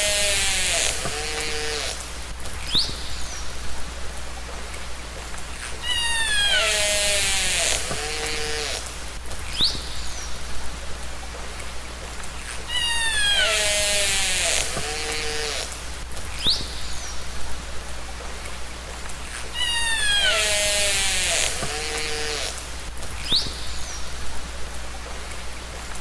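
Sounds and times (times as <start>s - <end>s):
orca buzzy pulsed calls: 0.0s - 25.2s.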